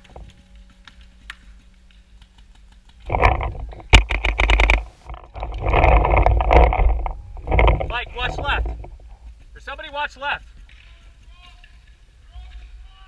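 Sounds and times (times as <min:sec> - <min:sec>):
rustling and scraping of movement: 0:00.0 - 0:13.0.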